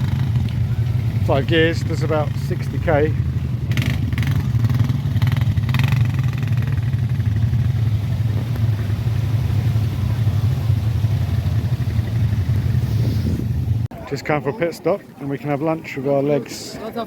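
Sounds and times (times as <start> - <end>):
quad bike engine running: 0.0 - 13.9.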